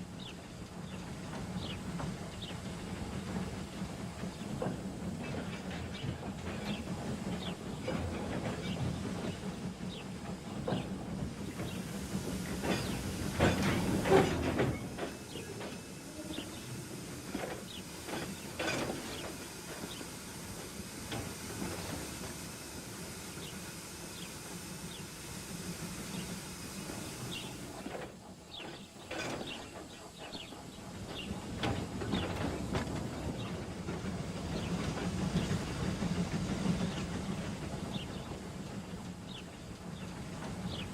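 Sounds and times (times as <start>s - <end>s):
steam hissing: 0.0s - 40.9s
train wheels clattering over rails: 0.0s - 40.9s.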